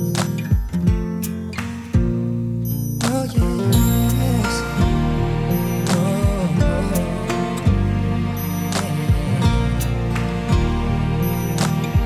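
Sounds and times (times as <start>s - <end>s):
slow song with long held notes: 0.0s - 12.0s.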